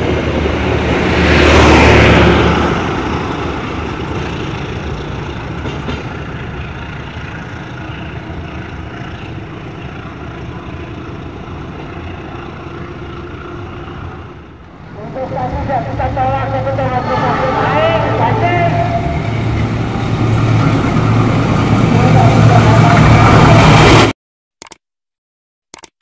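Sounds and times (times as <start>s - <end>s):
passenger train passing: 0.0s - 24.1s.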